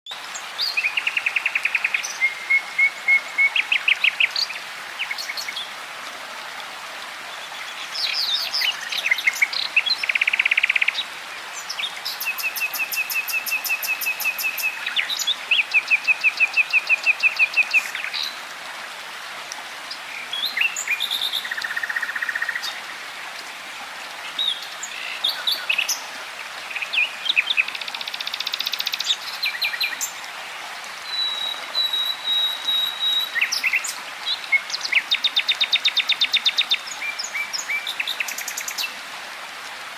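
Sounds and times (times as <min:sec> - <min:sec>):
background hiss: 0:00.2 - 0:39.9.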